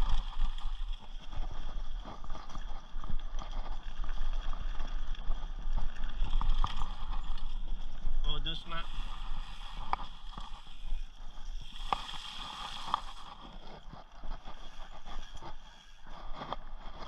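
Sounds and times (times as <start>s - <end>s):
bike rattling over bumps: 0.0s - 17.0s
bike tyres on dirt trail: 0.0s - 17.0s.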